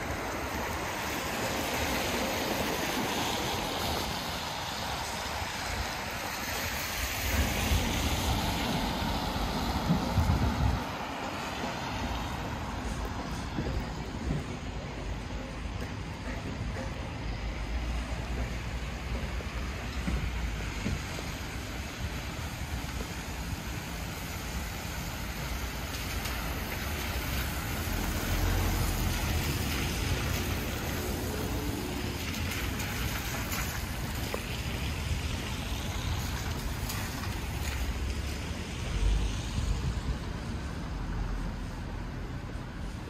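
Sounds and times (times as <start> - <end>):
traffic hum: 0.0 - 43.0
vehicles passing: 0.0 - 43.0.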